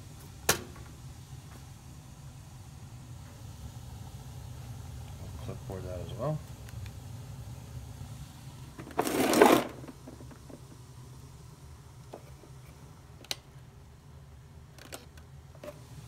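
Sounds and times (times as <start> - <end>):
boiler humming: 0.0 - 16.0.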